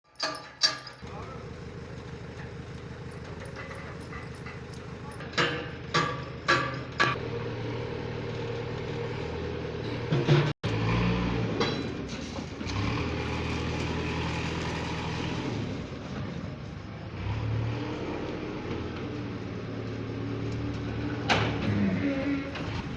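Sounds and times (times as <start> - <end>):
tractor diesel engine running: 0.1 - 22.9.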